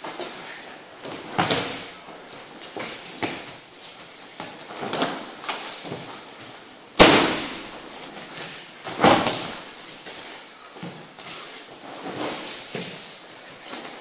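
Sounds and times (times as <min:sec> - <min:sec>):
bodies slapping onto mats: 0:00.0 - 0:14.0.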